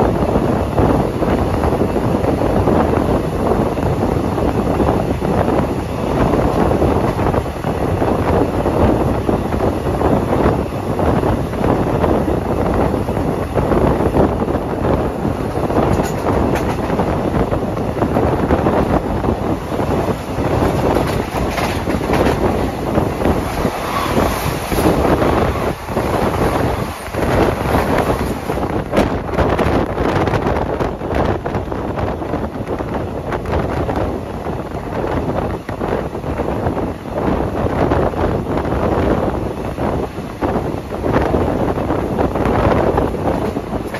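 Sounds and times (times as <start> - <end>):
train wheels rumbling on track: 0.0 - 43.9
wind buffeting microphone: 0.0 - 43.9.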